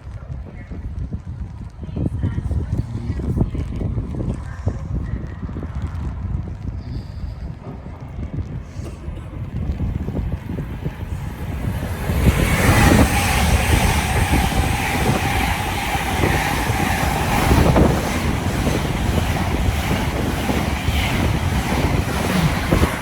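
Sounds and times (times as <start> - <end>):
train passing at speed: 2.2 - 23.0.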